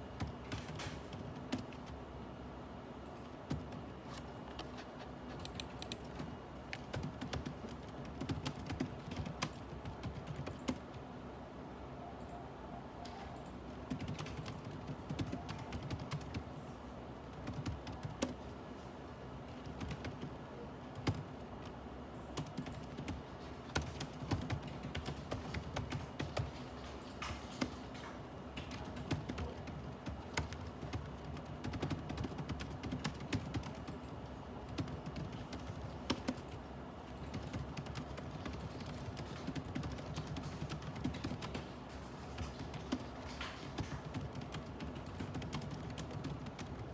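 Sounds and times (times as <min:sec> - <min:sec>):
typing on keyboard: 0:00.0 - 0:02.0, 0:03.0 - 0:11.1, 0:13.1 - 0:16.6, 0:17.2 - 0:18.5, 0:19.4 - 0:46.9
faint steady hum: 0:00.0 - 0:46.9.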